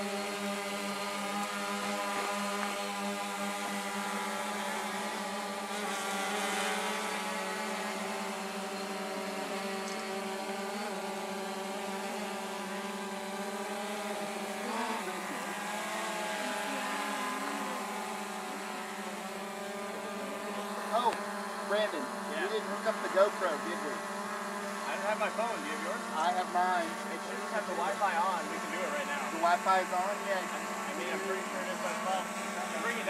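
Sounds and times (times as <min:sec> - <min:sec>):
drone rotors buzzing: 0:00.0 - 0:33.0.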